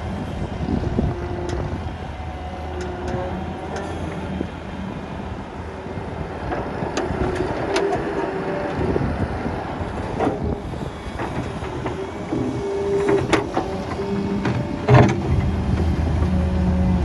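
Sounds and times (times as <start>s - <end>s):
diesel engine under load: 0.0s - 17.0s
hydraulic whine: 0.0s - 17.0s.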